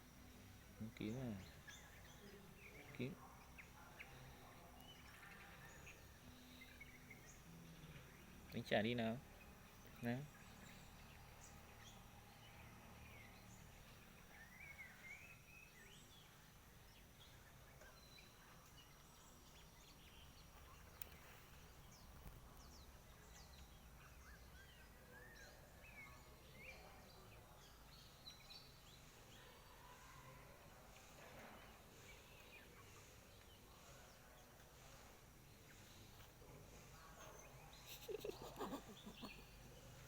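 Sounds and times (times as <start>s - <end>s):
faint bird chirps: 0.0s - 40.0s.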